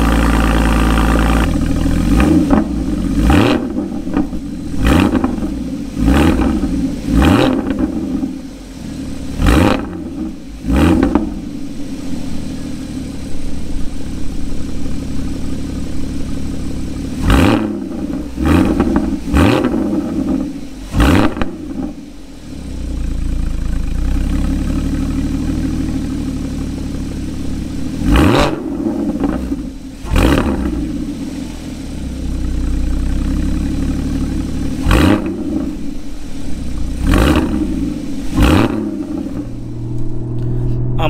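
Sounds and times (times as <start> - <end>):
car engine idling: 0.0 - 41.0
engine throttle blips: 0.0 - 41.0.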